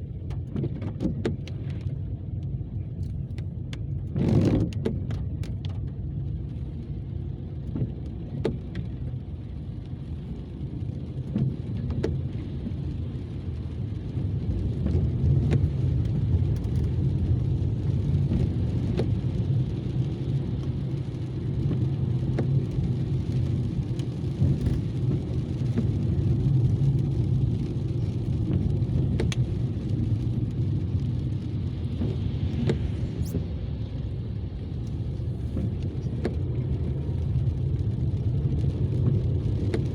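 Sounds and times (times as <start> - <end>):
car interior rumble: 0.0 - 39.9.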